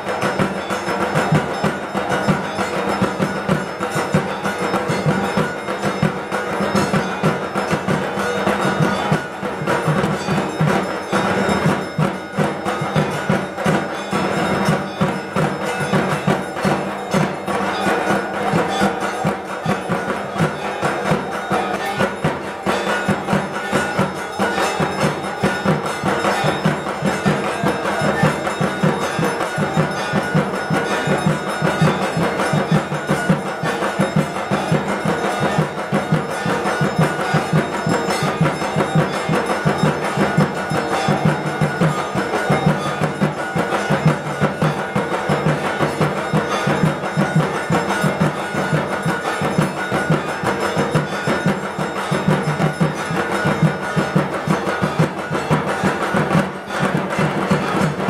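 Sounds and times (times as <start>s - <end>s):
clanging bells: 0.0s - 58.0s
fast drumming: 0.0s - 58.0s.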